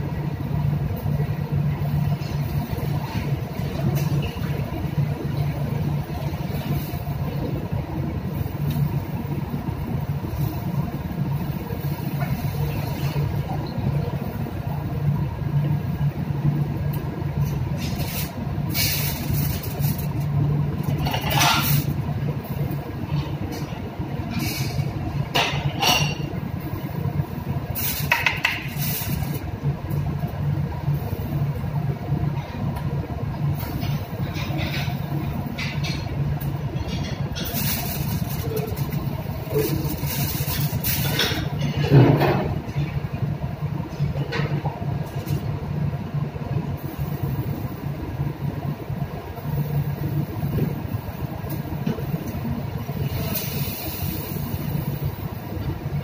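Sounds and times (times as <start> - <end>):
low machinery hum: 0.0 - 56.0.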